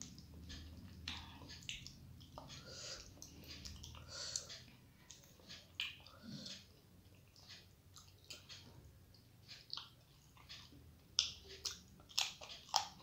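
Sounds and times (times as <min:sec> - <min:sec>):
chewing mouth clicks and smacks: 0:00.0 - 0:08.7, 0:09.6 - 0:13.0.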